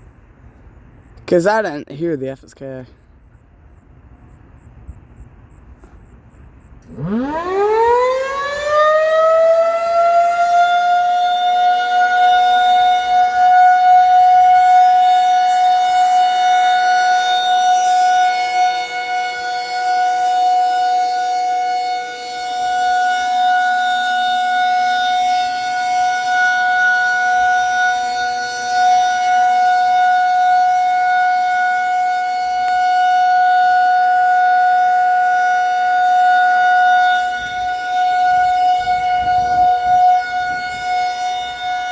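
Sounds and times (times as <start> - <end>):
outdoor warning siren: 0.0 - 1.6, 2.9 - 41.9.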